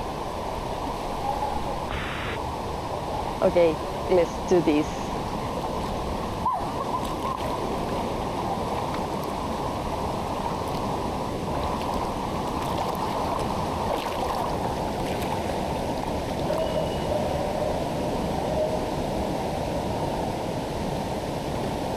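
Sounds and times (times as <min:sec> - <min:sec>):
river water rushing: 0:00.0 - 0:21.9.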